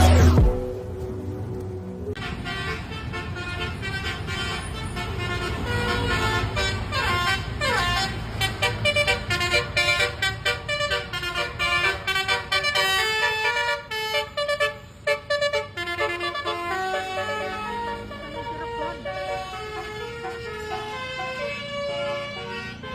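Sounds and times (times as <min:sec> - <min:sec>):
bus engine rumbling: 0:00.0 - 0:22.9
multi-tone bus horn tune: 0:02.1 - 0:22.9.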